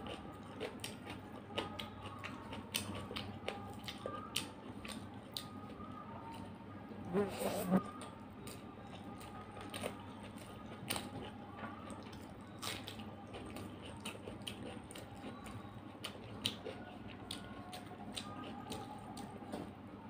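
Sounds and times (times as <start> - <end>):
eating sounds: 0.0 - 19.6.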